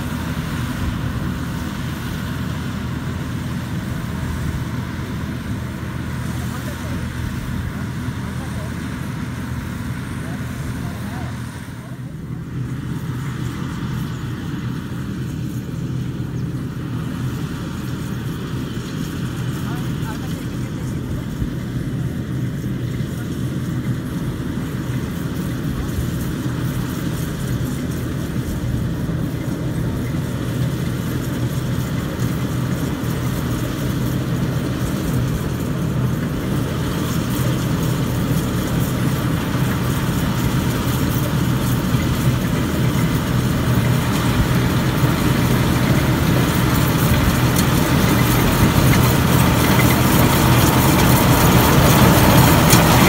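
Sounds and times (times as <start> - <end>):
combine harvester engine drone: 0.0 - 53.0.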